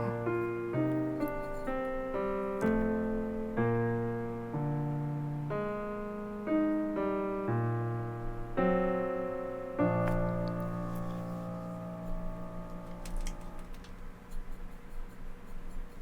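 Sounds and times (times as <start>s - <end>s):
piano chords: 0.0s - 13.9s.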